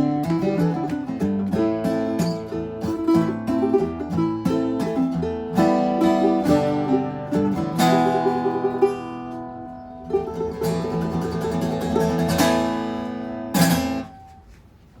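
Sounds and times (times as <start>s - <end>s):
plucked lute and guitar music: 0.0s - 14.9s.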